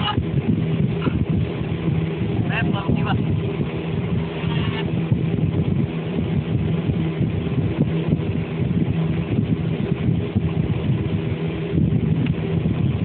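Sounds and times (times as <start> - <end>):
engine droning hum: 0.0 - 13.0.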